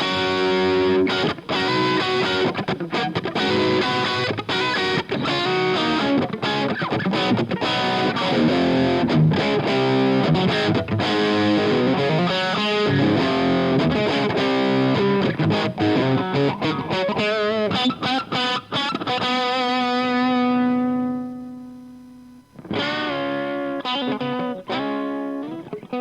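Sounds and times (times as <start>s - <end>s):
electric guitar lead playing: 0.0s - 26.0s.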